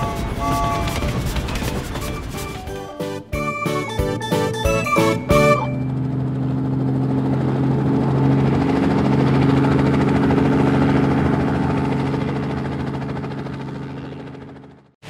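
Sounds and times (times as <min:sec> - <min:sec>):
cartoon vehicle engine hum: 0:00.0 - 0:14.9.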